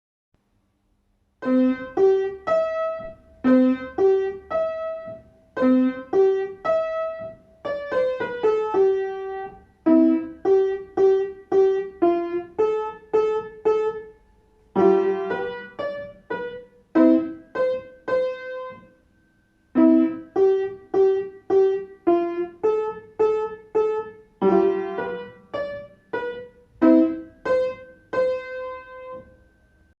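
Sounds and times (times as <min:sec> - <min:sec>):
beginner piano folk tune: 0:01.4 - 0:19.1, 0:19.7 - 0:30.0.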